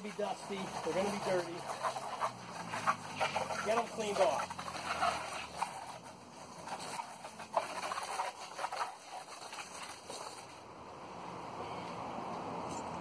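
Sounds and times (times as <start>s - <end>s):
hose water spraying on plastic jugs: 0.0s - 10.8s.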